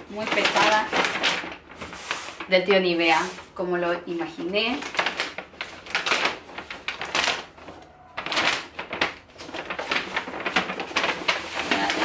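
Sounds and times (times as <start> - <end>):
paper gift bag rustling: 0.0 - 12.0.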